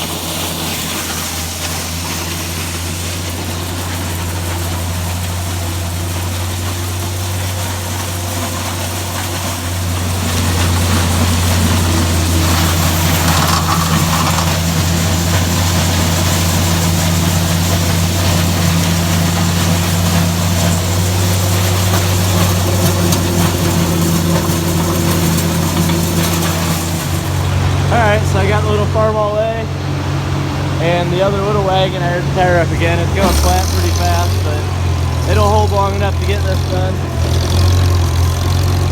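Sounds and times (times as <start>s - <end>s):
grinder-mixer grinding corn: 0.0s - 38.9s
tractor engine running: 0.0s - 38.9s.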